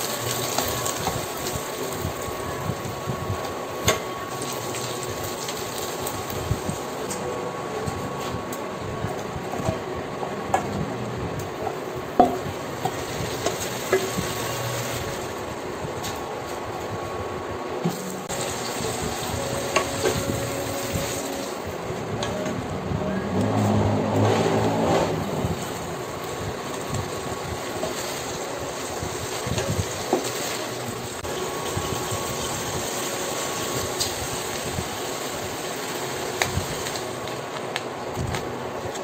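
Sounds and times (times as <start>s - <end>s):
vegetables sizzling in pot: 0.0s - 7.2s, 11.4s - 16.8s, 17.5s - 21.9s, 23.5s - 39.0s.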